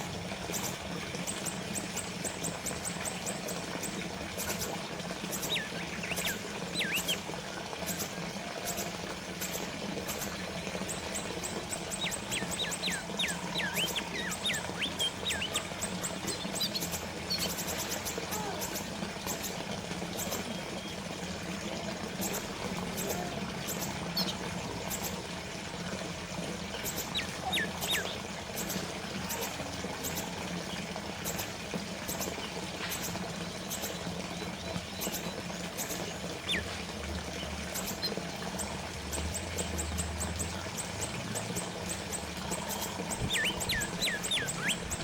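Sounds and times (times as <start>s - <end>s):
water fountain trickling: 0.0s - 45.0s.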